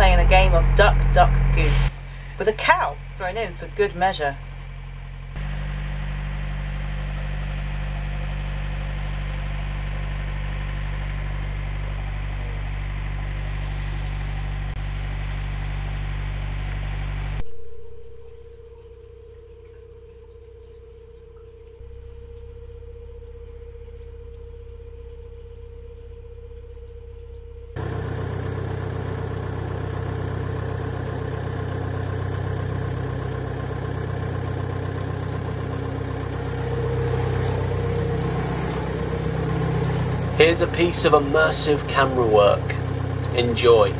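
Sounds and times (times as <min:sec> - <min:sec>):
boat engine chugging: 0:00.0 - 0:43.9.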